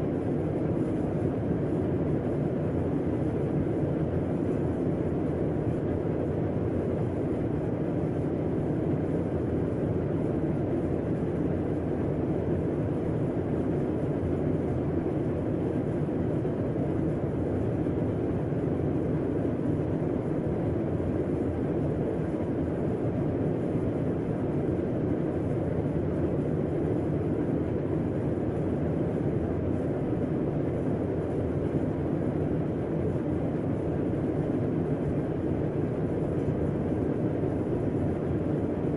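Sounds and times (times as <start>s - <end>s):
air conditioner running: 0.0s - 38.9s
faint steady hum: 0.0s - 38.9s.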